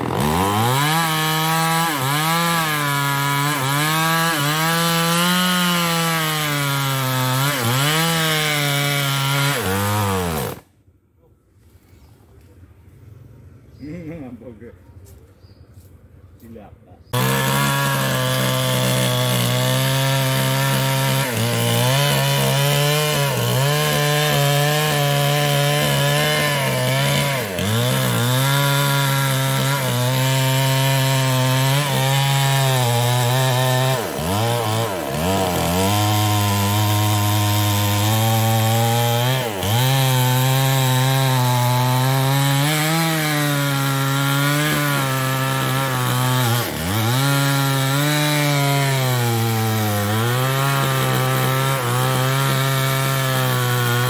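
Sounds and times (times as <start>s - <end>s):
chainsaw cutting wood: 0.0s - 10.7s, 17.1s - 54.0s.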